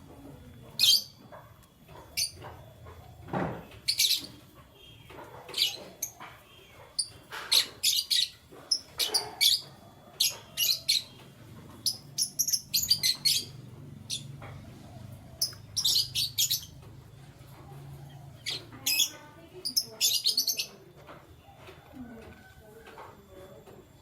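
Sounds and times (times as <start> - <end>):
canaries chirping: 0.6 - 20.9.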